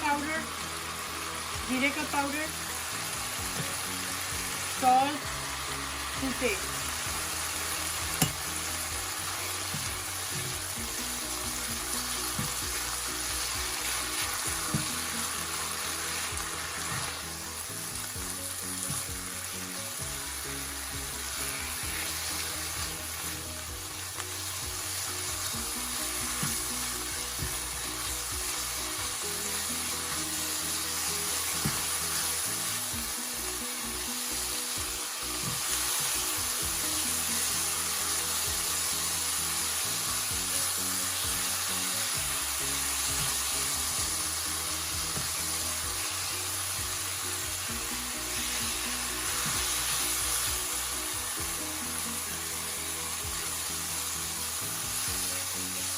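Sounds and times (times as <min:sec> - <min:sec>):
meat sizzling in a pan: 0:00.0 - 0:55.9.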